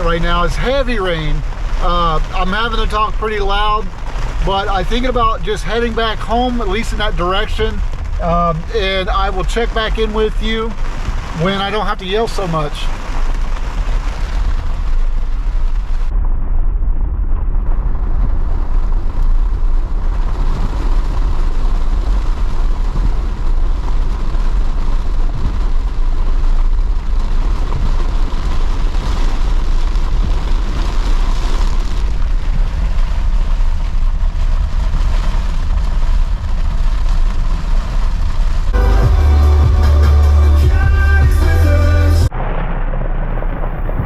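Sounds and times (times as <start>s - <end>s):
heavy rain drumming on vehicle: 0.0s - 16.2s, 17.0s - 44.0s
wind and road noise rumble: 0.0s - 44.0s.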